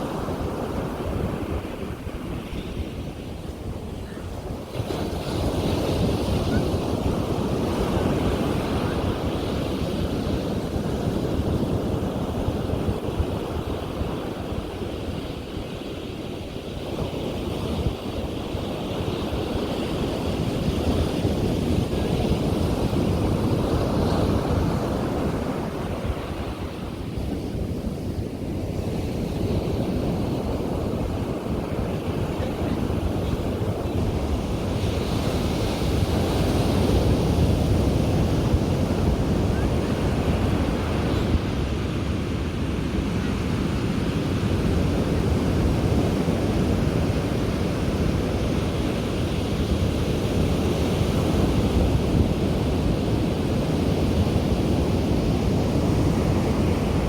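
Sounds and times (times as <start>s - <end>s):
ocean surf breaking on beach: 0.0s - 57.0s
wind rumbling on microphone: 0.0s - 57.0s.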